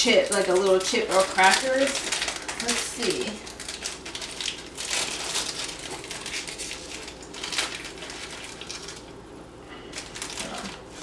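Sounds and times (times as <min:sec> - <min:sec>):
plastic snack wrapper crinkling: 0:00.0 - 0:09.2, 0:09.8 - 0:11.0.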